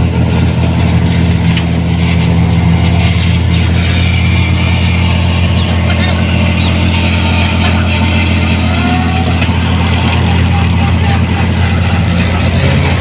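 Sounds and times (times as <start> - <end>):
diesel engine with loud exhaust: 0.0 - 13.0.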